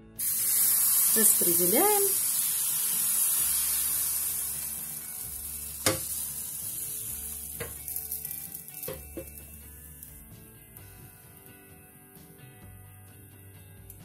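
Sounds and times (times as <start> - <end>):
batter sizzling in a frying pan: 0.0 - 11.6.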